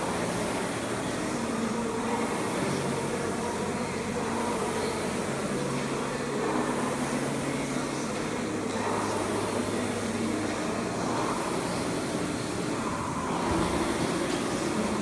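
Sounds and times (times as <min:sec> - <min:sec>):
rowing machine fan whirring: 0:00.0 - 0:15.0.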